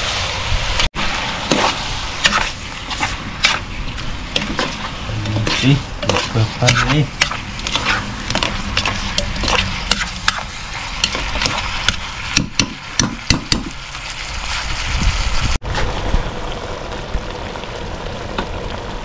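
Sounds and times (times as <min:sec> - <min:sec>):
steady cooking hiss: 0:00.0 - 0:19.0.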